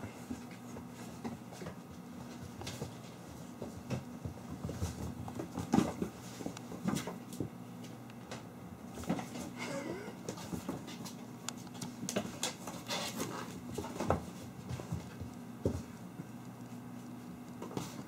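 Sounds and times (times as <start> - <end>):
paws scrabbling on wooden floor: 0.0 - 9.6, 10.2 - 18.0.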